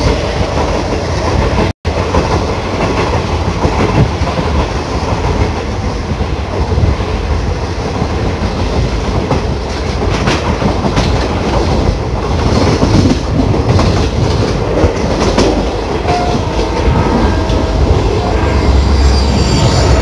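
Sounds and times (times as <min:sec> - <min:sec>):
train wheels clicking over rail joints: 0:00.0 - 0:18.3
train coach rumble and air rush: 0:00.0 - 0:20.0.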